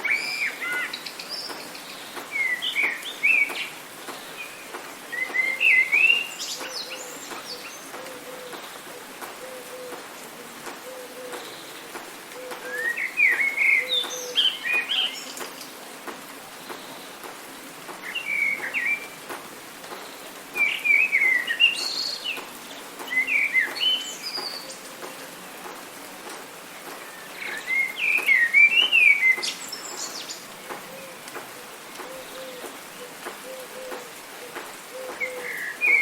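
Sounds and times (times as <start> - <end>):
rain hissing: 0.0 - 36.0
songbirds chirping: 0.0 - 36.0.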